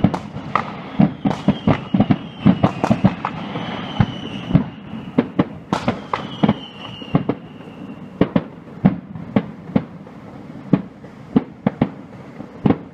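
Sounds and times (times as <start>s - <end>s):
firework bangs: 0.0s - 12.9s
firework whistle: 0.0s - 12.9s.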